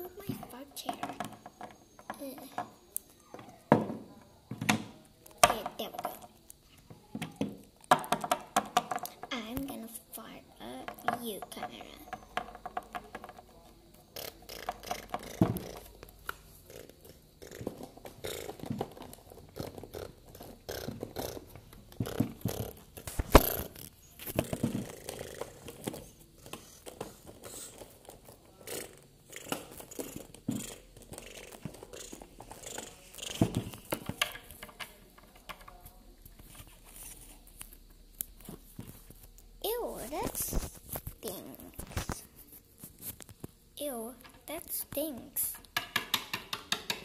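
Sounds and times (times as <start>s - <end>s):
plastic toys clicking and tapping: 0.1s - 3.9s, 4.6s - 9.7s, 10.6s - 36.6s, 44.2s - 47.0s.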